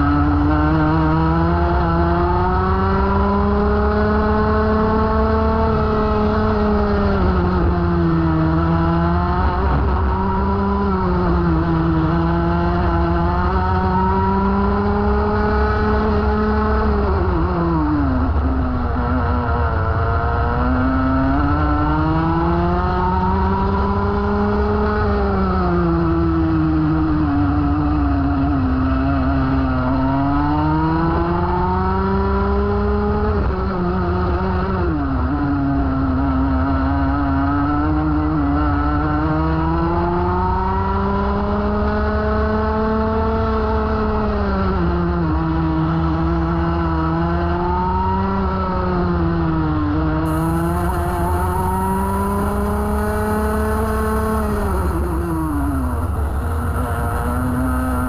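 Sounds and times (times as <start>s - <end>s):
kart two-stroke engine racing: 0.0s - 58.0s.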